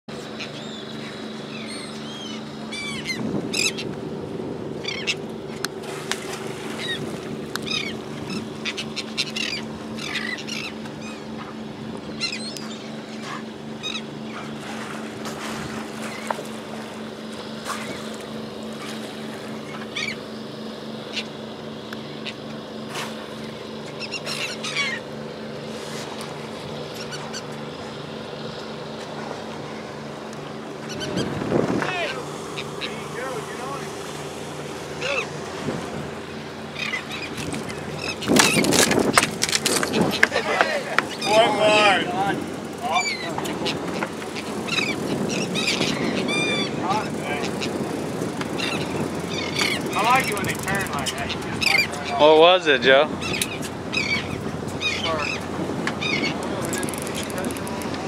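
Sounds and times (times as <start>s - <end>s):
boat engine humming: 0.0s - 58.0s
gulls squawking: 0.2s - 4.0s, 4.8s - 58.0s.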